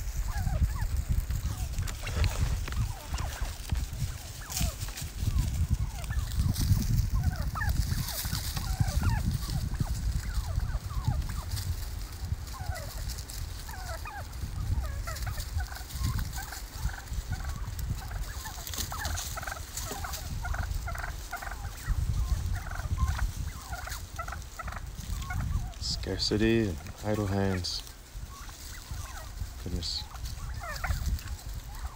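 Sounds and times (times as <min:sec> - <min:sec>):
turkeys calling: 0:00.0 - 0:31.9.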